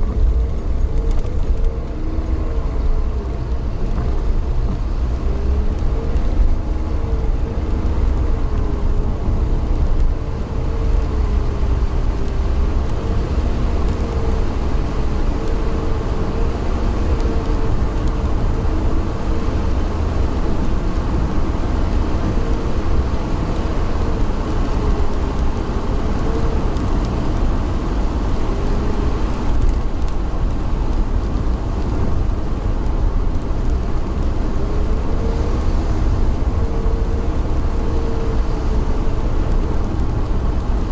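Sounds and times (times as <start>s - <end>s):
faint engine whine: 0.0s - 40.9s
vehicle rumble from inside: 0.0s - 40.9s.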